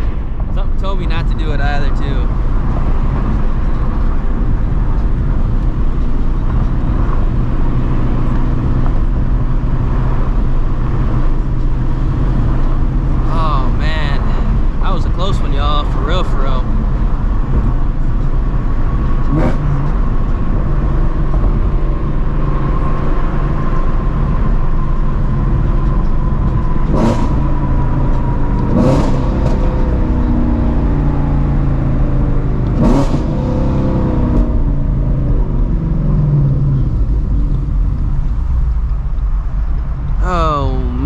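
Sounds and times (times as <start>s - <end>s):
car engine cruising: 0.0s - 41.0s.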